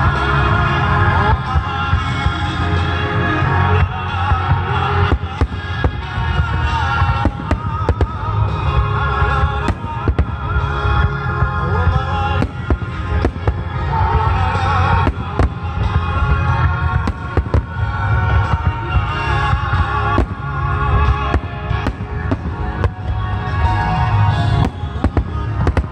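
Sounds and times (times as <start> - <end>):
loud music with heavy bass: 0.0 - 25.9
fireworks bursting and crackling: 4.4 - 25.9.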